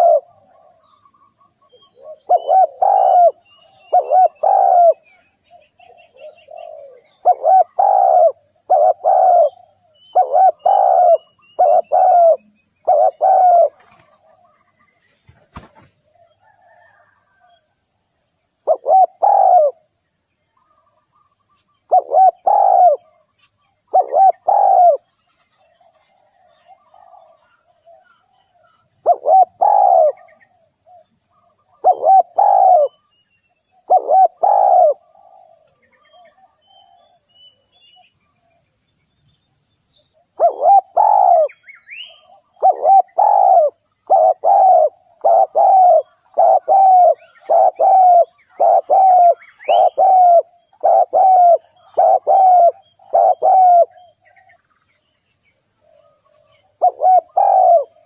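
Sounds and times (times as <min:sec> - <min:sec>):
dove cooing: 0:00.0 - 0:14.8, 0:15.4 - 0:17.6, 0:18.6 - 0:19.9, 0:21.8 - 0:23.2, 0:23.9 - 0:33.0, 0:33.8 - 0:37.3, 0:40.3 - 0:54.6, 0:55.8 - 0:58.0.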